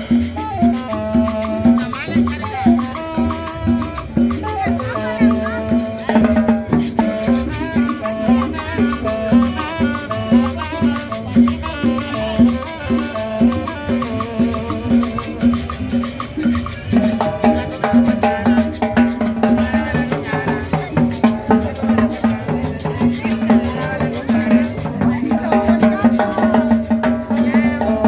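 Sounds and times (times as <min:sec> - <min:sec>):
salsa dance music: 0:00.0 - 0:28.0.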